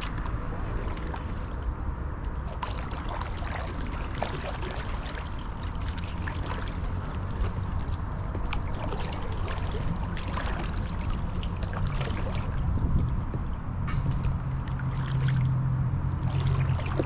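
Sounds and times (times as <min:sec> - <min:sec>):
low rumble: 0:00.0 - 0:17.0
paddle splashing water: 0:00.0 - 0:17.0.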